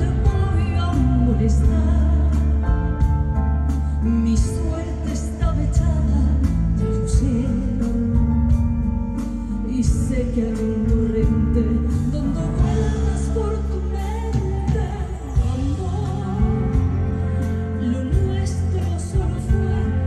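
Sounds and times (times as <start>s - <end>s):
woman singing into a microphone: 0.0s - 8.6s, 9.2s - 20.0s
full band playing: 0.0s - 20.0s.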